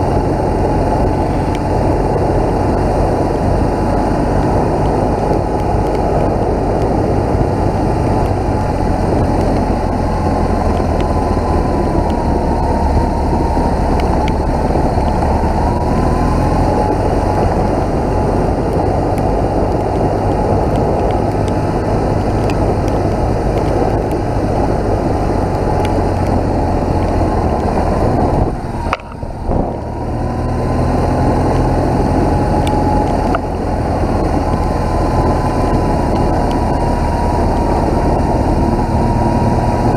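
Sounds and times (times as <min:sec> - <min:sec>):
motorcycle engine running: 0:00.0 - 0:39.9
rushing wind noise: 0:00.0 - 0:39.9.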